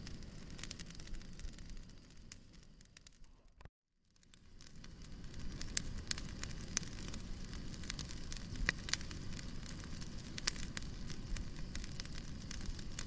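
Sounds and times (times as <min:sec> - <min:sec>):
fire burning rumble: 0:00.0 - 0:13.0.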